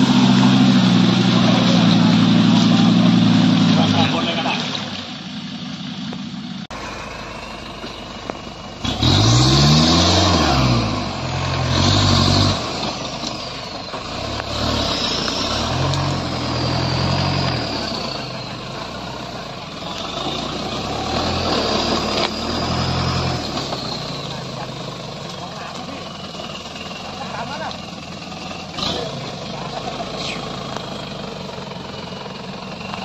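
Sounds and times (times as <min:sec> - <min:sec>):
pickup engine revving: 0:00.0 - 0:33.0.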